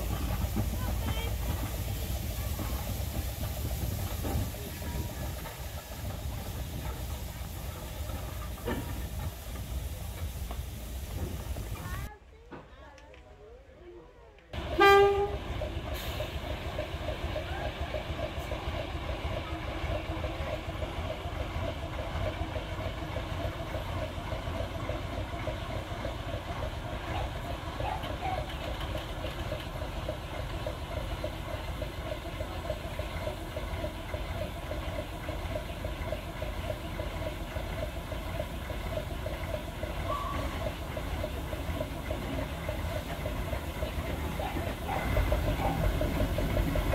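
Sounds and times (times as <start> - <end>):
diesel locomotive engine running: 0.0 - 12.2, 14.5 - 46.9.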